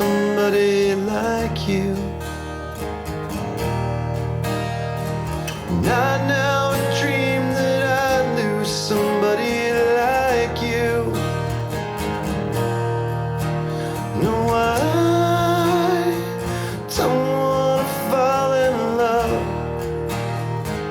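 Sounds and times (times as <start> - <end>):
slow guitar ballad: 0.0 - 20.9.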